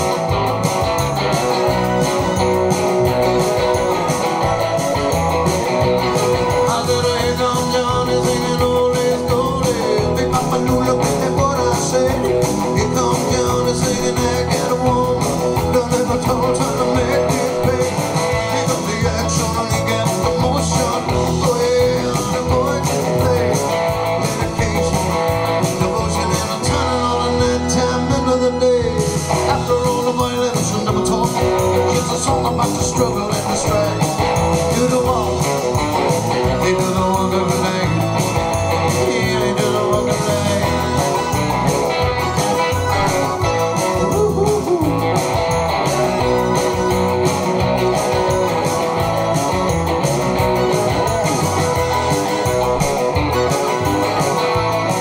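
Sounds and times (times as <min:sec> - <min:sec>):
electric guitar playing: 0:00.0 - 0:55.0
man singing: 0:01.1 - 0:55.0.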